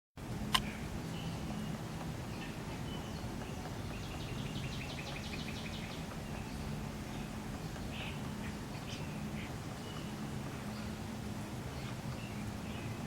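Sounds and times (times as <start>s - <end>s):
low background hum: 0.2s - 13.0s
songbird chirping: 0.2s - 13.0s.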